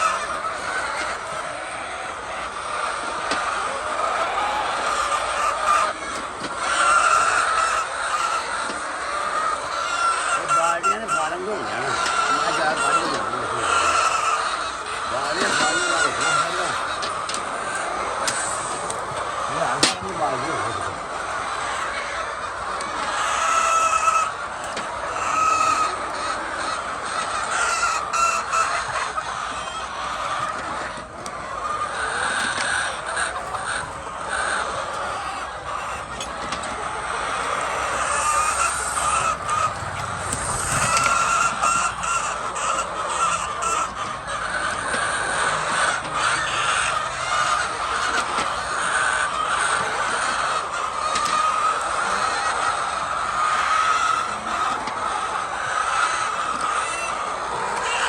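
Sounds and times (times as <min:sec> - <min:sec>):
chicken squawks: 0:00.0 - 0:58.0
chickens clucking: 0:00.0 - 0:58.0.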